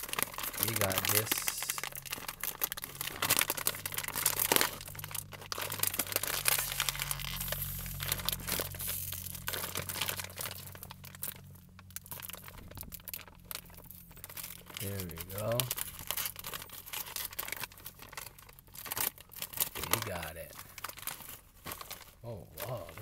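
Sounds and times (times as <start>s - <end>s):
foil pouch crinkling: 0.0s - 23.0s.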